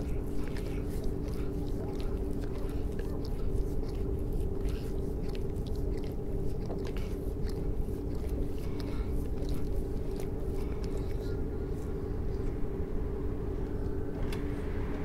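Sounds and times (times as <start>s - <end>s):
dog licking and nibbling fur: 0.0s - 12.6s
steady low hum: 0.0s - 15.0s.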